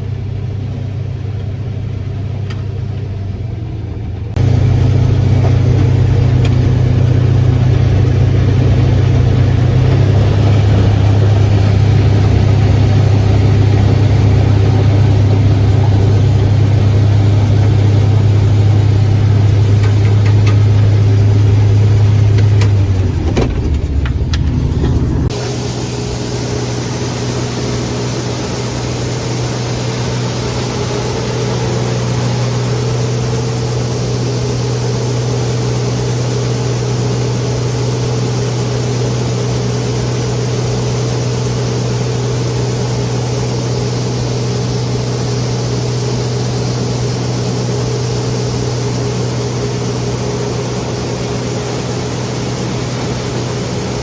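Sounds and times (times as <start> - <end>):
farm machinery engine drone: 0.0 - 54.0.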